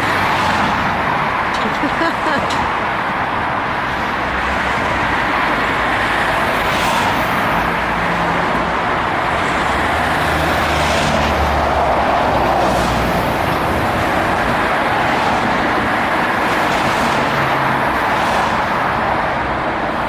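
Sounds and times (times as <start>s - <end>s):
engine hum of traffic: 0.0s - 20.0s.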